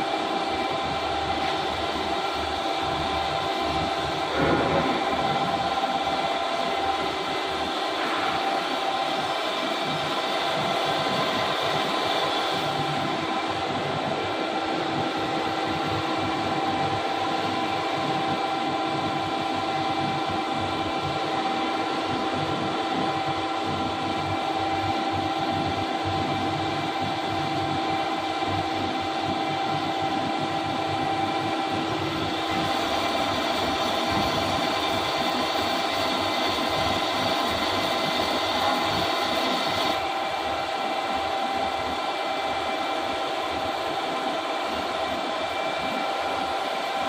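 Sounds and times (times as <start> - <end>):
lathe machine hum and whine: 0.0 - 47.0.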